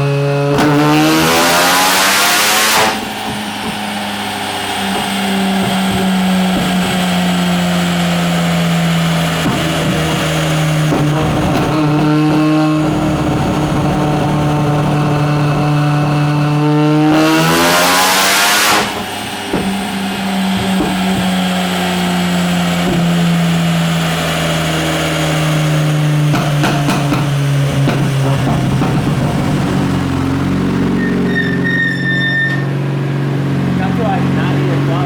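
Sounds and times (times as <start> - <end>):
rotary engine revving: 0.0 - 35.0.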